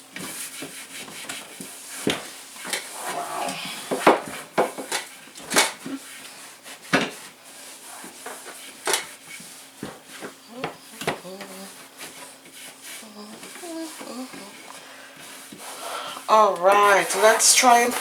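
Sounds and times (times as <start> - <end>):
shelf being wiped: 0.1 - 4.5, 5.8 - 10.4, 11.5 - 14.5, 15.1 - 18.0.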